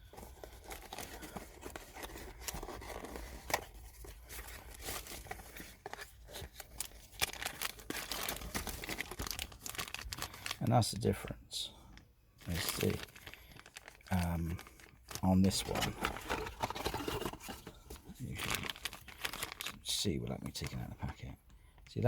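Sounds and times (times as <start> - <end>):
plastic packaging crinkling: 0.0 - 10.7, 12.4 - 20.9.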